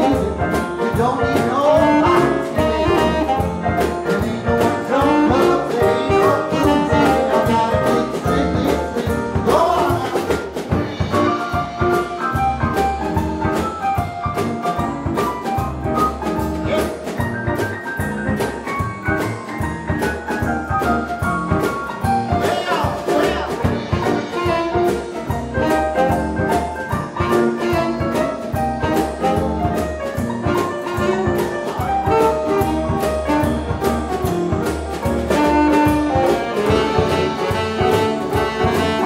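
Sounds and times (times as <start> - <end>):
stage piano lead: 0.0 - 39.0
swing band playing: 0.0 - 39.0.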